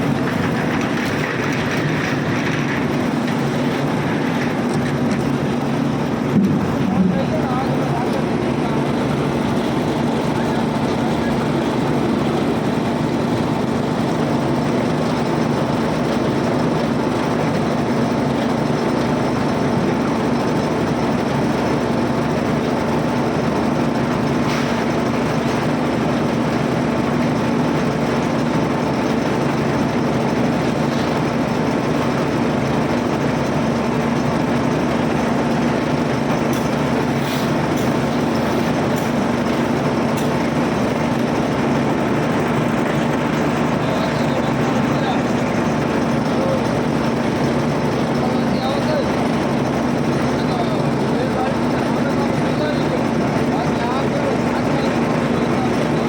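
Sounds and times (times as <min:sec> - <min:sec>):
machine engine humming: 0:00.0 - 0:56.0.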